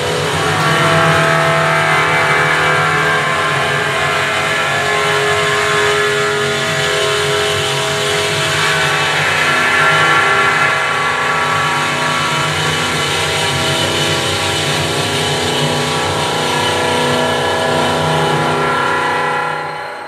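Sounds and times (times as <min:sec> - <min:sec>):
music of dense held tones: 0:00.0 - 0:20.0.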